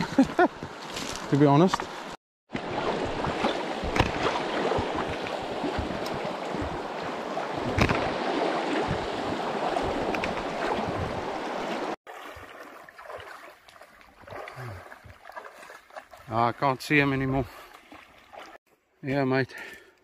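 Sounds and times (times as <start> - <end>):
stream water rushing: 0.6 - 18.6.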